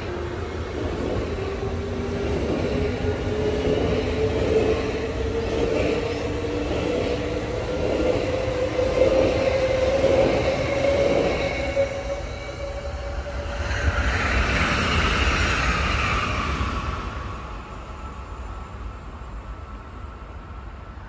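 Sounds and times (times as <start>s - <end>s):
train whine rising in pitch: 0.0s - 20.0s
train wheels rumbling on rail: 0.0s - 21.0s.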